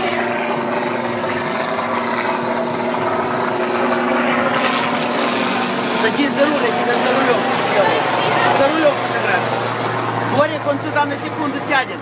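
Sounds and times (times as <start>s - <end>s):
helicopter rotor drone: 0.0s - 12.0s.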